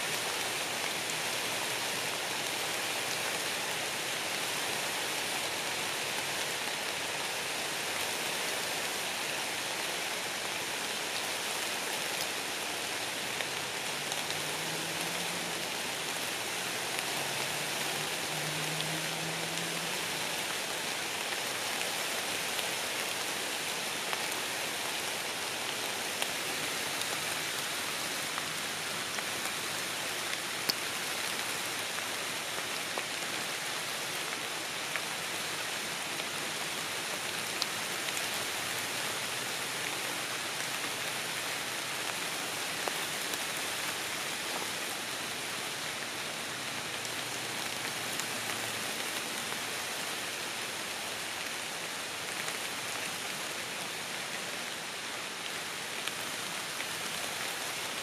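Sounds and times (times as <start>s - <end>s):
light rain on leaves: 0.0s - 58.0s.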